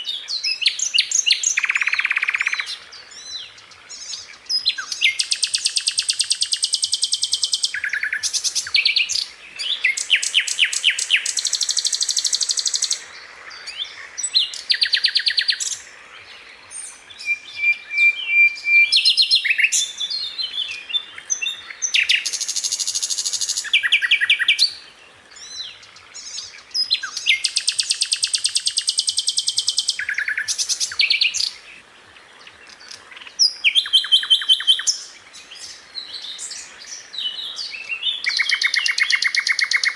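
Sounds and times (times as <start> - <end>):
bird singing rapid trills: 0.0 - 15.9, 16.7 - 24.8, 25.4 - 31.7, 32.6 - 39.9.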